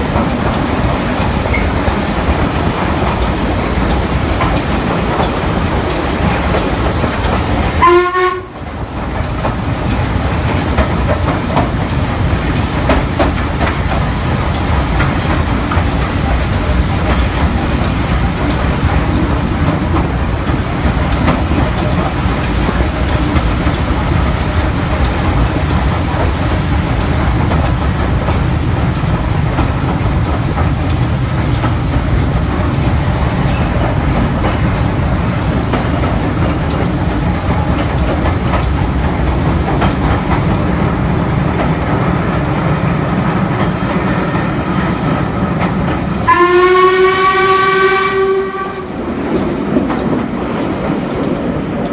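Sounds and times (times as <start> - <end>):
train coaches running on rails: 0.0 - 51.9.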